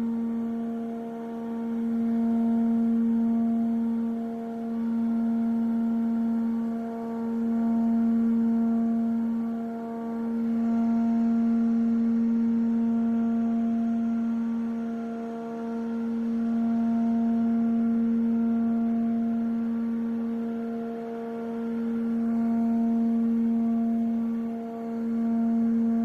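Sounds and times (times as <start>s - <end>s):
low singing bowl drone: 0.0s - 26.0s.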